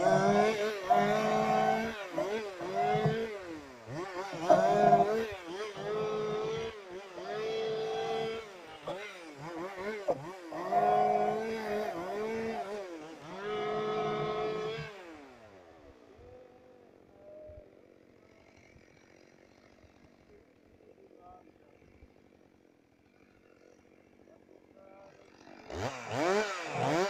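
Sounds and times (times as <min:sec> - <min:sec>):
chainsaw revving: 0:00.0 - 0:17.1, 0:17.8 - 0:27.0.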